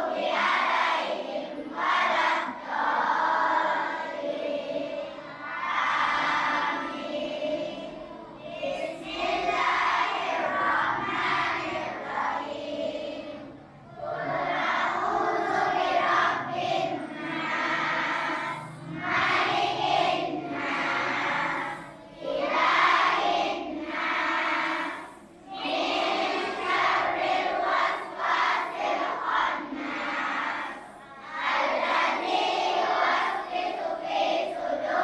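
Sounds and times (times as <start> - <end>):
children chanting in unison: 0.0 - 35.0.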